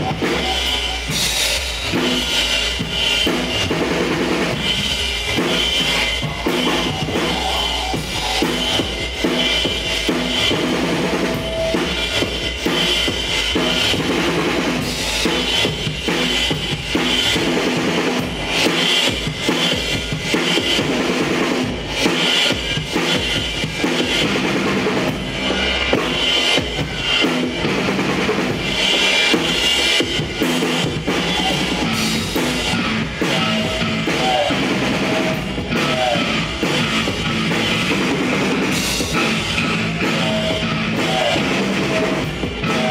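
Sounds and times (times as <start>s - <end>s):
live band music: 0.0s - 42.9s.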